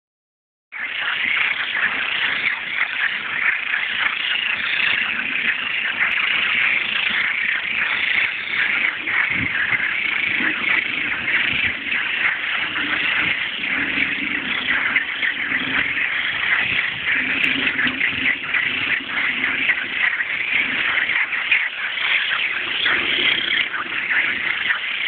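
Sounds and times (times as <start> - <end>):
frogs trilling chorus: 0.7 - 25.0
low frog croaking: 1.0 - 25.0.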